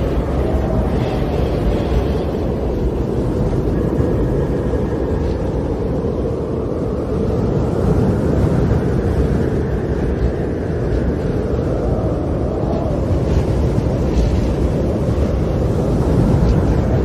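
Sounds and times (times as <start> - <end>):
snowstorm wind blowing: 0.0 - 17.0.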